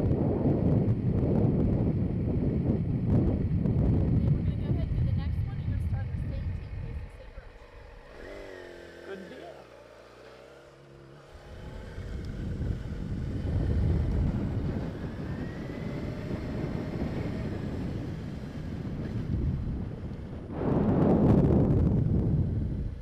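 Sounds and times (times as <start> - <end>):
wind rushing over microphone: 0.0 - 9.0, 11.0 - 23.0
motorcycle running at low speed: 0.0 - 23.0.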